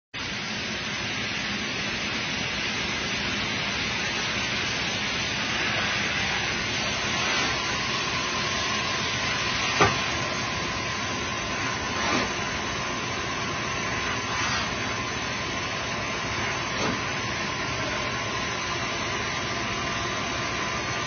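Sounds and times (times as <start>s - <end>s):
machining center hissing: 0.5s - 21.0s
faint spindle whine: 0.6s - 21.0s.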